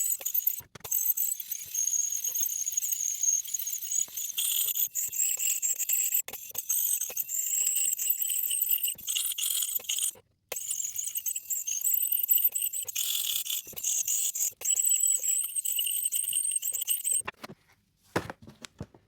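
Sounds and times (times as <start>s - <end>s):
tool scratching and squeaking on coin: 0.0s - 17.3s.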